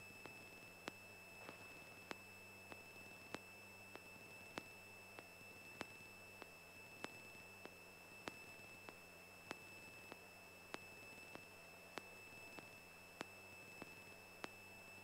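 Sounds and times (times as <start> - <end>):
high-pitched electrical whine: 0.0 - 15.0
sharp electrical ticks: 0.0 - 15.0.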